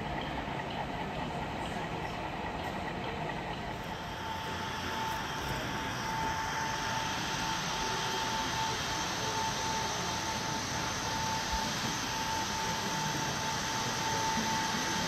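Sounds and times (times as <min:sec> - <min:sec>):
exhibition hall background noise: 0:00.0 - 0:15.0
thin high whine: 0:01.8 - 0:15.0.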